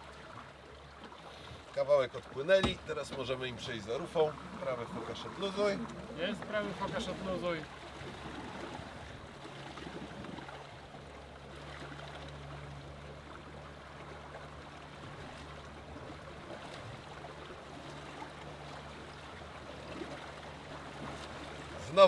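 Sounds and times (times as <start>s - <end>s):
water rushing along hull: 0.0s - 22.0s.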